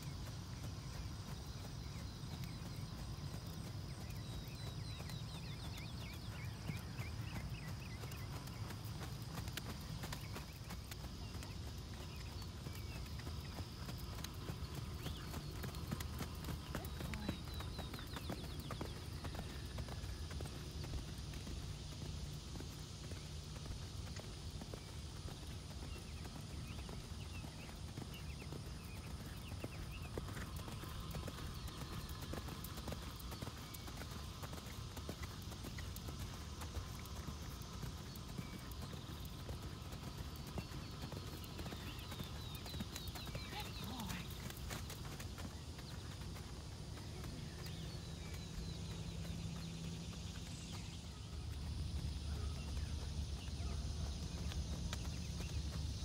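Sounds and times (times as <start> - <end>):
horse hoofbeats on dirt: 0.0 - 56.0.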